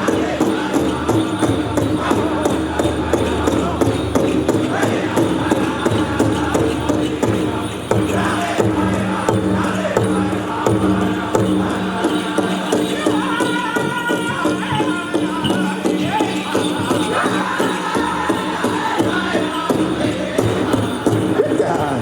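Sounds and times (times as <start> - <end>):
high-pitched group singing: 0.0 - 22.0
large drum steady beat: 0.0 - 22.0.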